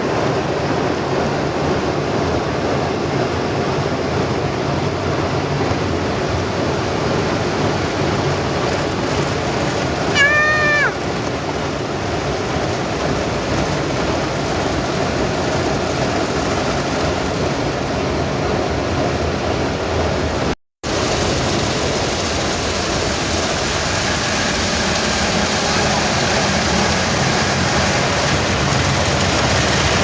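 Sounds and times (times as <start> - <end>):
water jets spraying on car: 0.0 - 30.0.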